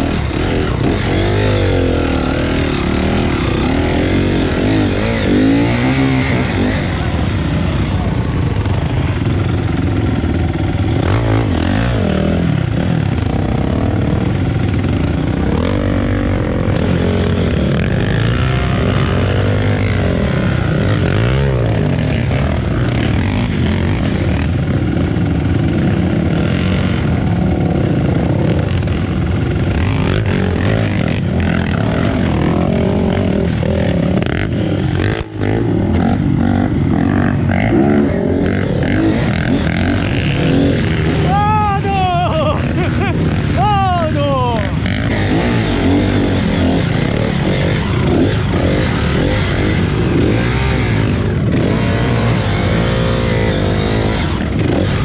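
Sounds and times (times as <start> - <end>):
off-road motorcycle engine revving: 0.0 - 55.0.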